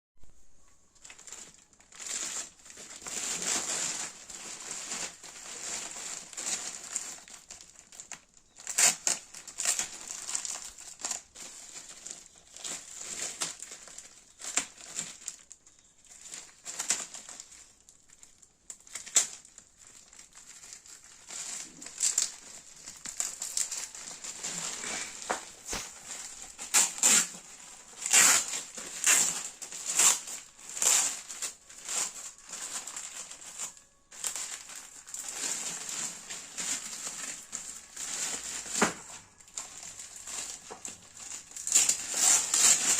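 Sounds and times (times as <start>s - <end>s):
packaging crinkling: 0.7s - 42.9s.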